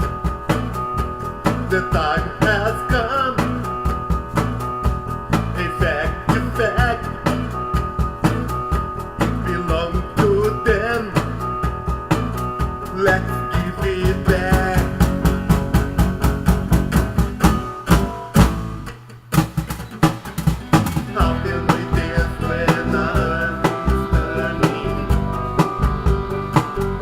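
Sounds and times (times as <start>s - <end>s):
band music with guitar: 0.0s - 27.0s
drum beat: 0.0s - 27.0s.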